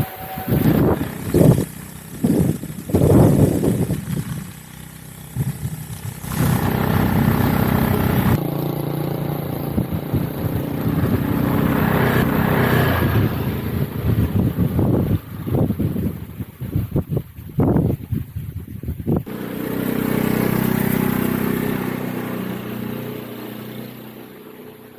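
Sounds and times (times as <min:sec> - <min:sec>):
motorcycle engine running: 0:00.0 - 0:24.9
rushes of noise: 0:00.0 - 0:24.9.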